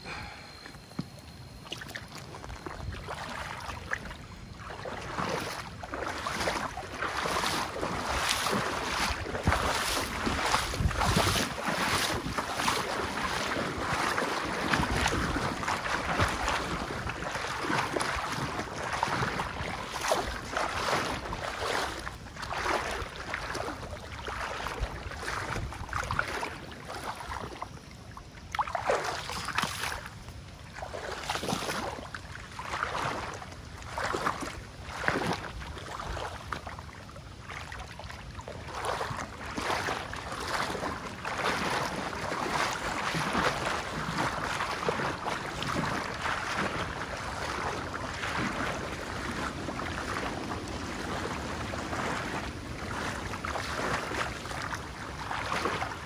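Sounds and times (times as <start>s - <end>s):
river water running: 0.0s - 56.0s.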